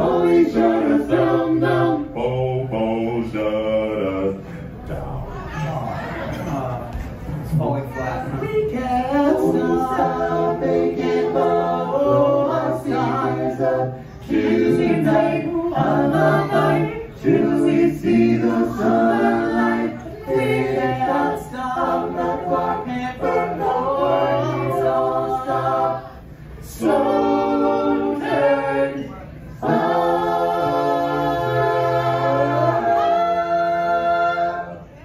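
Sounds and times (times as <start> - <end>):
male group singing in harmony: 0.0 - 4.8, 8.6 - 34.9.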